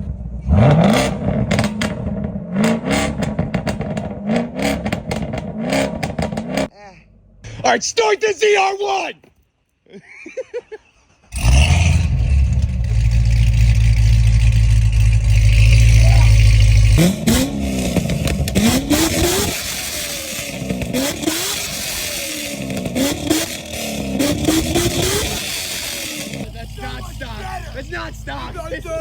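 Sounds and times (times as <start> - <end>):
car engine starting and revving: 0.0 - 6.7, 11.0 - 29.0.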